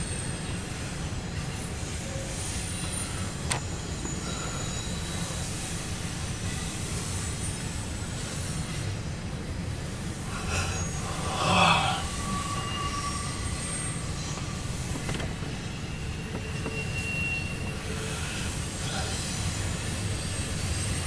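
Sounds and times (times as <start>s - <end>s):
high wheel squeal: 0.0s - 21.0s
wheels rumbling on rail: 0.0s - 21.0s.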